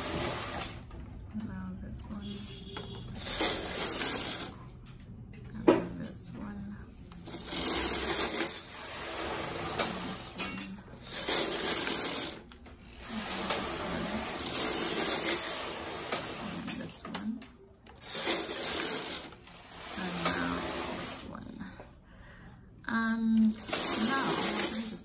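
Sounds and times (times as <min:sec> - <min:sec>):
knitting machine carriage rattling: 0:00.0 - 0:21.6, 0:23.0 - 0:25.0.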